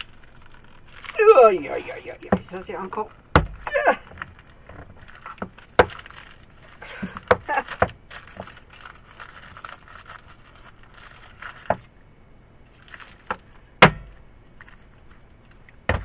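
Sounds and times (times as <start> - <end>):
foil wrapper crinkling: 0.0 - 12.0, 12.7 - 16.0.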